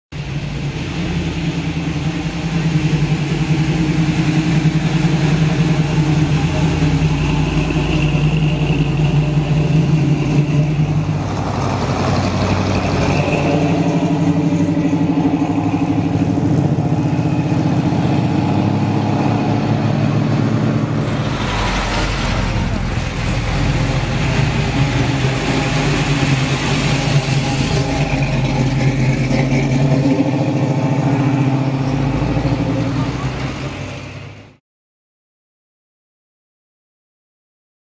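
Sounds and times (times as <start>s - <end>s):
car engine driving past: 0.2s - 34.6s.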